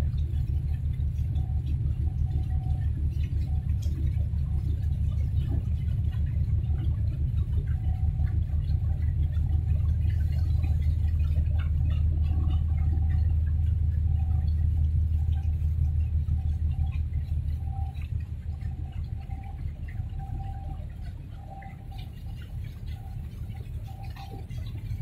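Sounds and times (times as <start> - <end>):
ship engine rumbling: 0.0 - 25.0.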